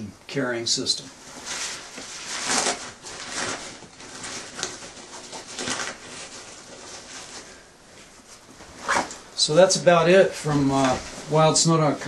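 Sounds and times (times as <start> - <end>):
nylon fabric rustling: 1.2 - 12.0.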